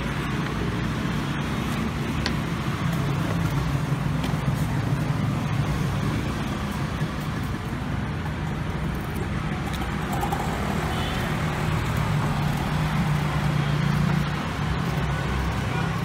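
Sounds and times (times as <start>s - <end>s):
street traffic engine hum: 0.0s - 16.0s.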